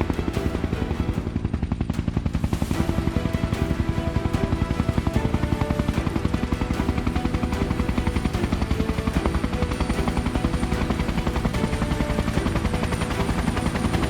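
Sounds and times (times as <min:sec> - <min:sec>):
helicopter rotor blades chopping: 0:00.0 - 0:14.0
music: 0:00.0 - 0:14.0.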